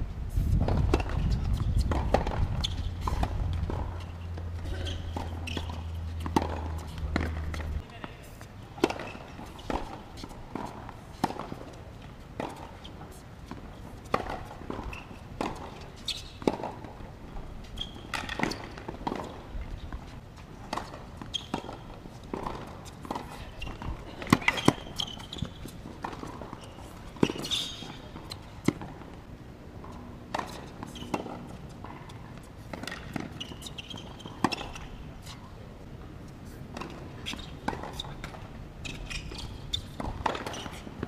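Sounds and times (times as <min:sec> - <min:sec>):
tennis balls struck and bouncing: 0:00.6 - 0:35.1, 0:36.7 - 0:41.0.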